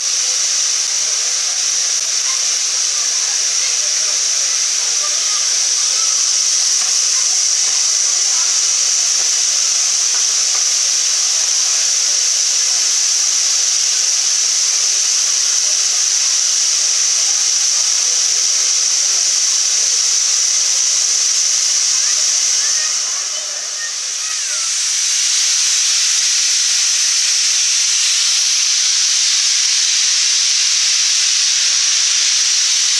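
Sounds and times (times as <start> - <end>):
steam locomotive hissing steam: 0.0 - 32.9.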